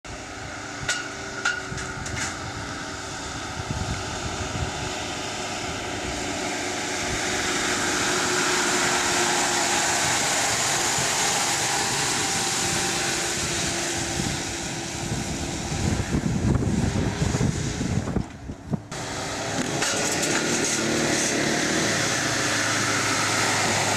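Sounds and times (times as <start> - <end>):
diesel engine under load: 0.0 - 23.9.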